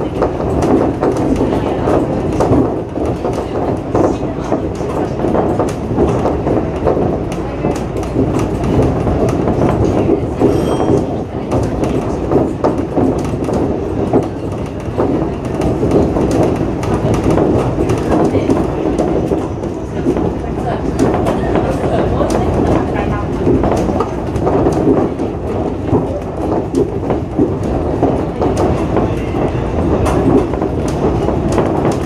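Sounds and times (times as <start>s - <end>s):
monorail running noise: 0.0s - 32.0s.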